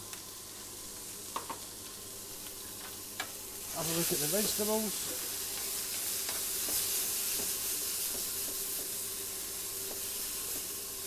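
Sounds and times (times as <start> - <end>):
vegetables and bacon sizzling: 0.0 - 11.0.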